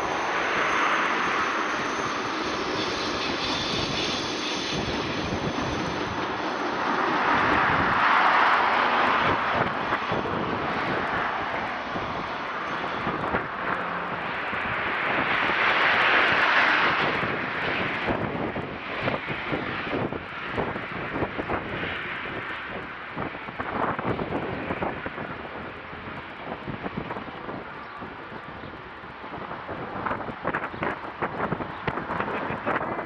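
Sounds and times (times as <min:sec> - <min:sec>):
diesel railcar running: 0:00.0 - 0:33.0
wind buffeting microphone: 0:00.0 - 0:33.0.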